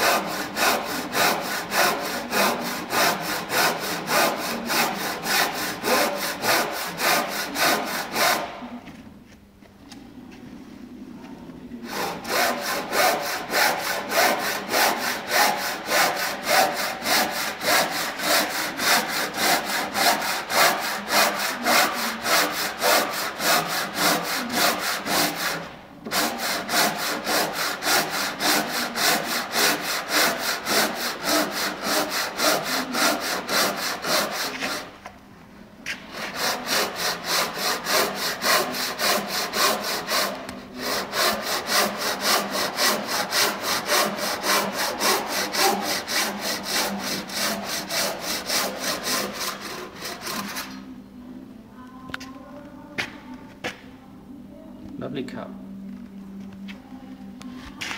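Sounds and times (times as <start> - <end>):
handsaw cutting wood: 0.0 - 8.7, 11.8 - 35.0, 35.9 - 50.8.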